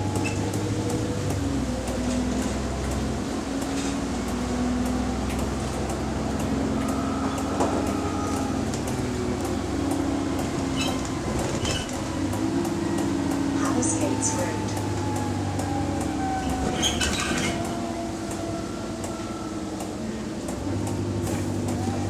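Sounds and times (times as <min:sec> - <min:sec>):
diesel bus engine humming: 0:00.0 - 0:22.0.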